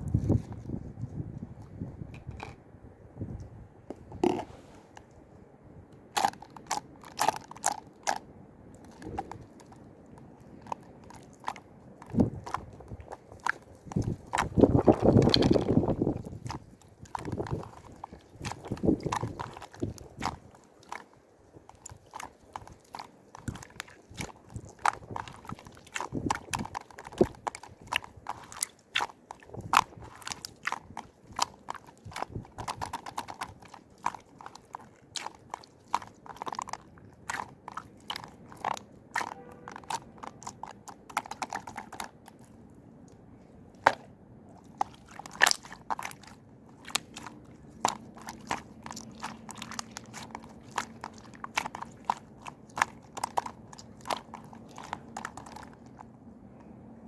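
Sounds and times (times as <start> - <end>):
crunchy chewing: 0.0 - 2.6, 6.0 - 56.7.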